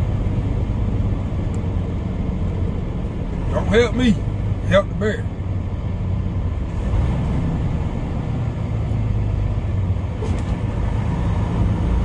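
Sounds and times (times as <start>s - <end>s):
truck diesel engine running: 0.0s - 12.0s
tyre and road noise: 0.0s - 12.0s.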